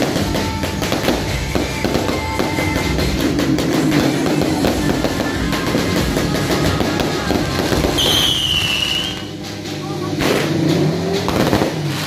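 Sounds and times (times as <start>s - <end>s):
loud music with drums and guitar: 0.0s - 12.0s.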